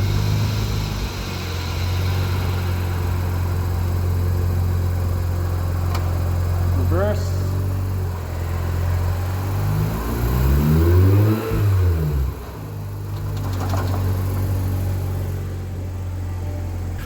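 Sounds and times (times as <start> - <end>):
rotary engine running: 0.0 - 15.4.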